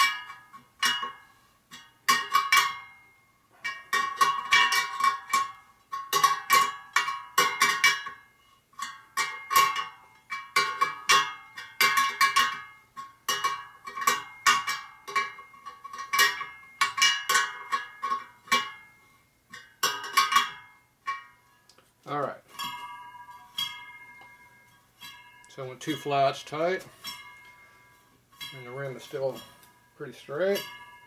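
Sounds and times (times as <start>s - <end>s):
spoke wrench clinking on spokes: 0.0s - 21.6s, 22.3s - 31.0s.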